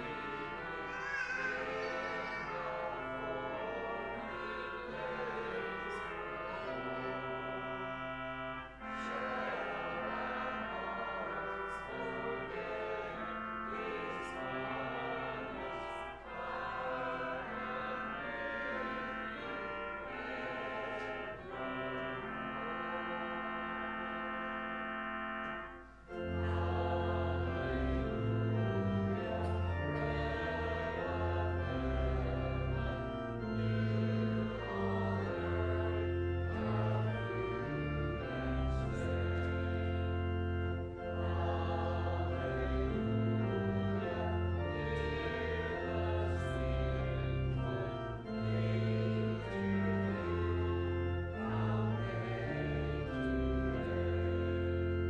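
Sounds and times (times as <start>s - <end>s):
church organ playing a hymn: 0.0s - 55.0s.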